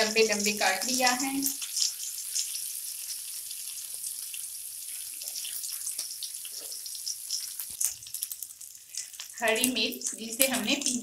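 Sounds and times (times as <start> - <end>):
leaves sizzling in hot oil: 0.0 - 11.0
oil popping: 0.0 - 11.0.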